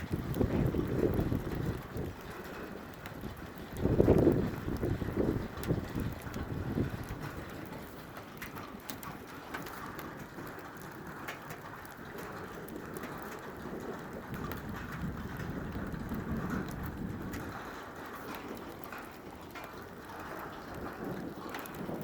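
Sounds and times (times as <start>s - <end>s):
distant thunder rumble: 0.0s - 22.0s
raindrops ticking close by: 0.0s - 22.0s
steady rain falling: 0.0s - 22.0s.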